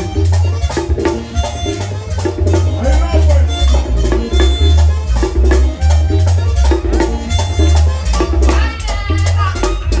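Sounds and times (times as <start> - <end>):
merengue band playing: 0.0 - 10.0.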